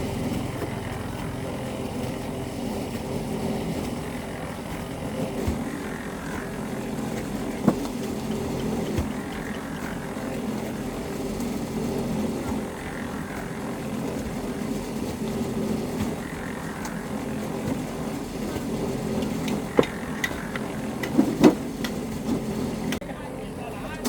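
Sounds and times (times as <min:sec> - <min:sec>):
motor droning: 0:00.0 - 0:24.0.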